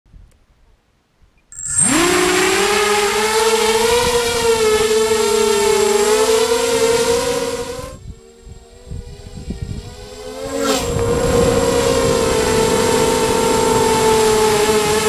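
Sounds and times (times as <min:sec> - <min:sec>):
drone motors high whine: 0:01.6 - 0:15.0.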